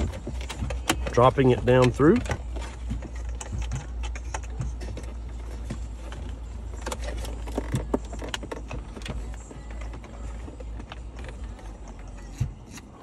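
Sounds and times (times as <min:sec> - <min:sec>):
low steady hum: 0:00.0 - 0:13.0
plastic and wire clicks and rustles: 0:00.0 - 0:13.0.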